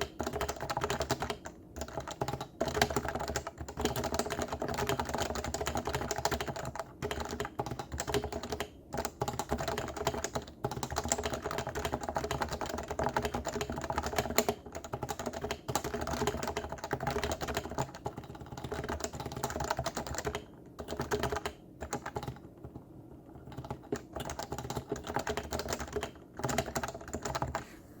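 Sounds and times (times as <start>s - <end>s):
fast typing on a keyboard: 0.0s - 27.6s.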